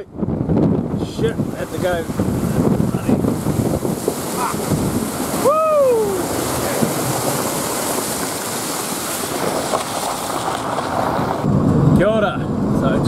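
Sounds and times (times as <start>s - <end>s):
tyre splashing through floodwater: 1.0s - 11.6s.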